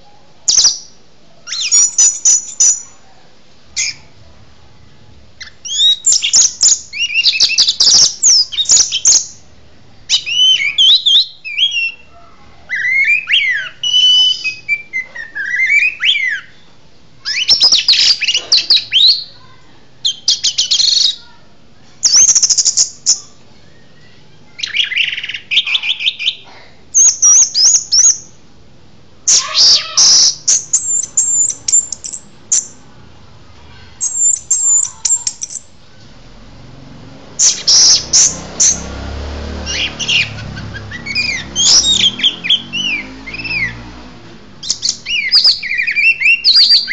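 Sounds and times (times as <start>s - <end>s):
songbird singing trills: 0.0s - 3.0s, 3.8s - 4.1s, 5.4s - 21.4s, 22.0s - 28.4s, 29.3s - 32.8s, 34.0s - 35.8s, 37.4s - 39.0s, 39.6s - 44.0s, 44.6s - 46.9s.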